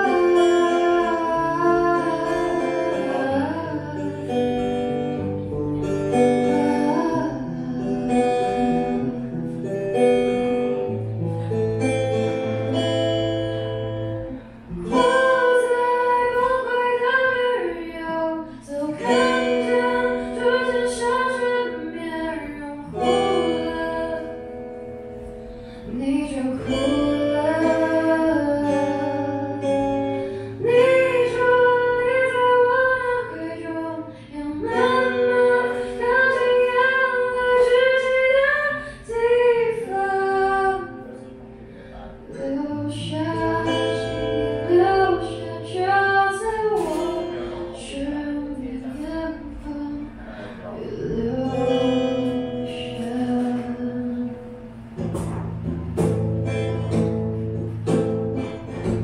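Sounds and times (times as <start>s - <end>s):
woman singing: 0.0s - 41.3s, 42.3s - 55.3s
strummed acoustic guitar: 0.0s - 59.0s.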